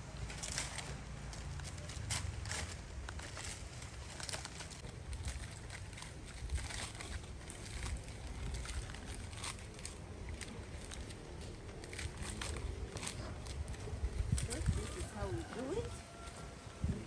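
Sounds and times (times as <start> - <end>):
dry leaves crackling: 0.0 - 17.0.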